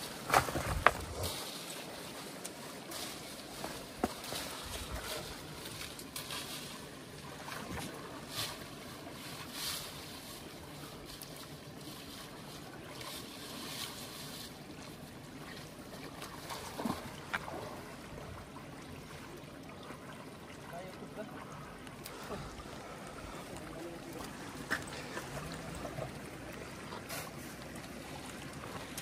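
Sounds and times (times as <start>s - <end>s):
river water flowing: 0.0s - 29.0s
water splashes: 0.0s - 29.0s.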